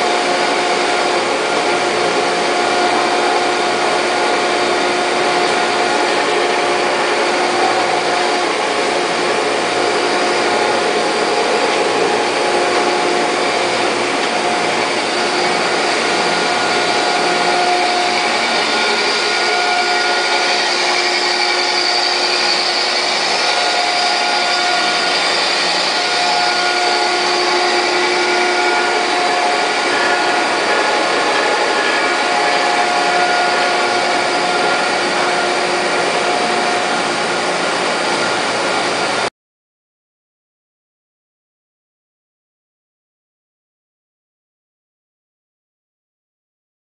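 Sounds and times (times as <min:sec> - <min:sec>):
grinder motor whine and hum: 0:00.0 - 0:39.2
steady tones: 0:00.0 - 0:39.3.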